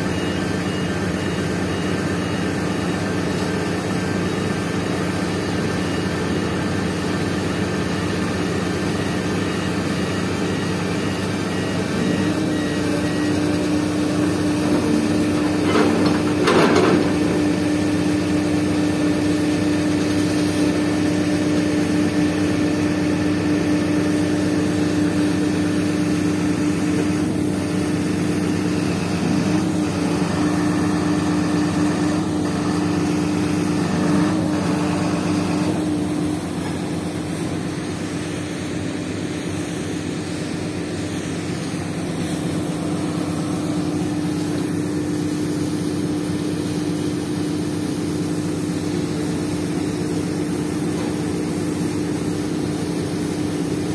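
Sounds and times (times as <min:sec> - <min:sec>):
diesel machinery engines running: 0:00.0 - 0:53.9.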